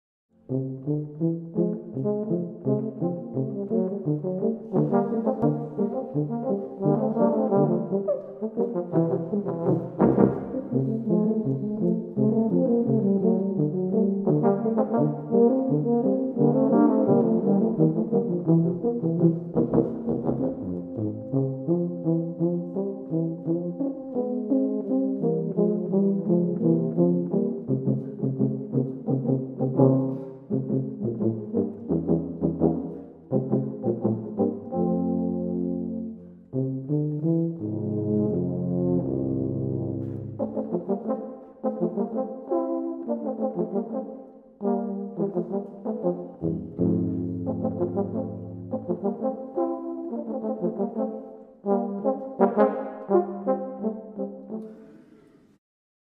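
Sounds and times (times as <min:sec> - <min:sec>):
tubas and euphoniums playing: 0:00.5 - 0:55.0.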